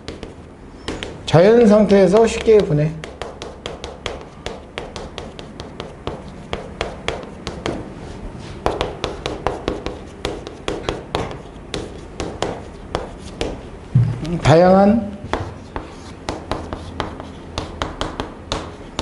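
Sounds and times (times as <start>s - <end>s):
chalk tapping on chalkboard: 0.0s - 13.7s, 15.2s - 19.0s.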